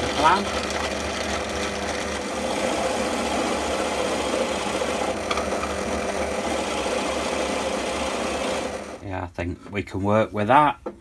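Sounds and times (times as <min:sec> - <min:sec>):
electric drill boring into wood: 0:00.0 - 0:09.0.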